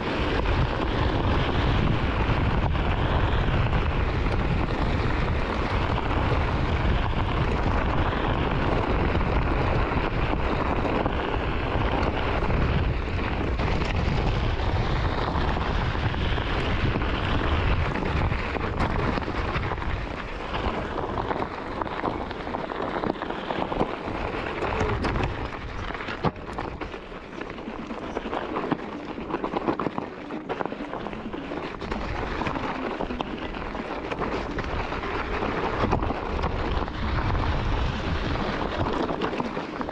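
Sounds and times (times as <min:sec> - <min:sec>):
tyre rolling over gravel: 0:00.0 - 0:39.9
wind buffeting microphone: 0:00.0 - 0:39.9.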